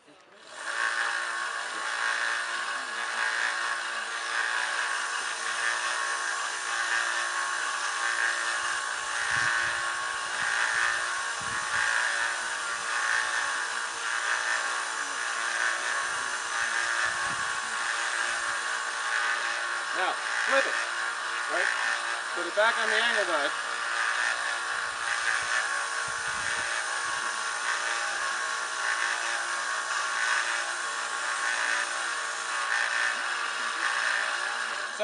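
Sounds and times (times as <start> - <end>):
belt grinder grinding steel blade: 0.0 - 35.0.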